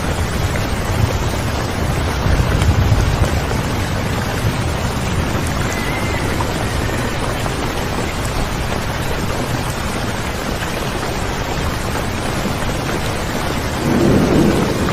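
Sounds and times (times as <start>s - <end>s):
steady rain hiss: 0.0s - 14.9s.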